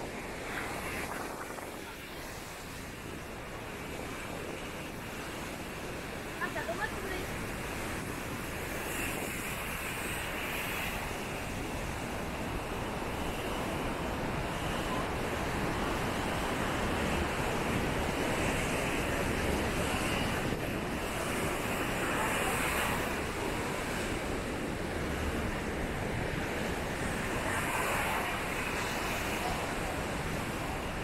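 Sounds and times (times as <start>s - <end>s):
ocean surf breaking on beach: 0.0s - 31.0s
wind on microphone: 0.0s - 31.0s.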